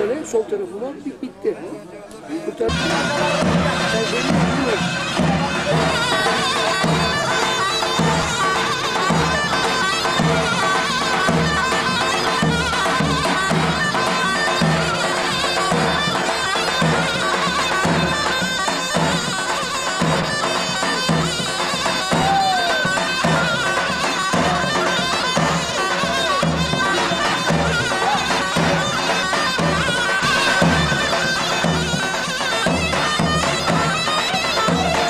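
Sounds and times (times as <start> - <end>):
shrill double-reed shawm melody: 2.7 - 35.0.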